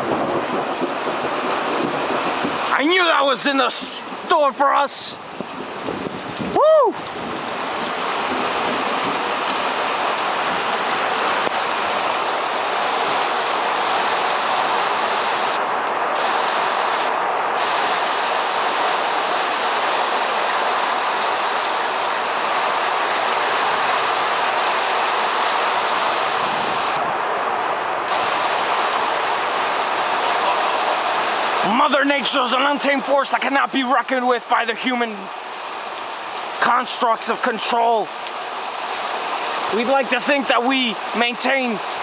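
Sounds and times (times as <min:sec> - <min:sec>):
heavy rain pouring: 0:00.0 - 0:42.0
wind: 0:00.0 - 0:42.0.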